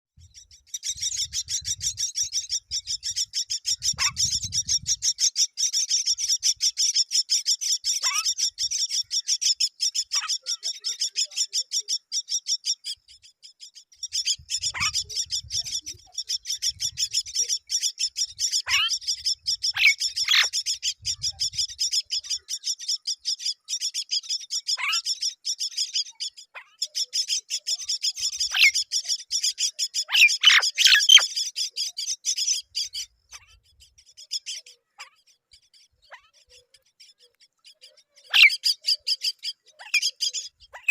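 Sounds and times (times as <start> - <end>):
nestlings begging calls: 0.3 - 40.9.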